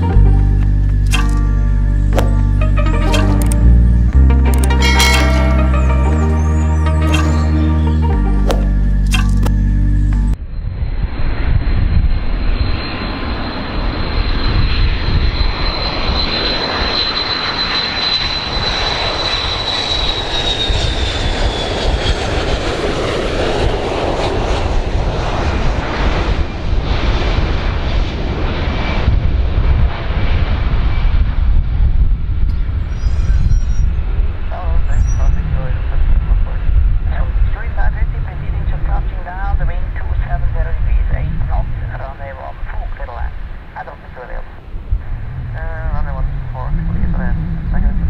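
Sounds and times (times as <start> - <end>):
jet engines whining and roaring: 0.0 - 48.0.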